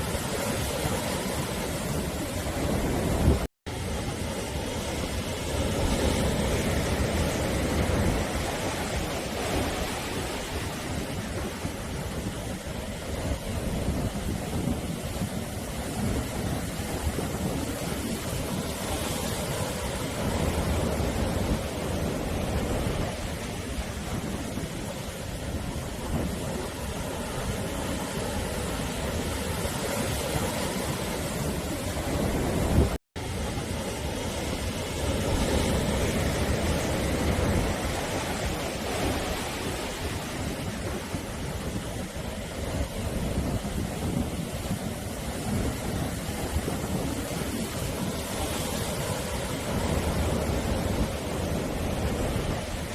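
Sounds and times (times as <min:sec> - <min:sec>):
sea surf breaking on shore: 0:00.0 - 0:52.9.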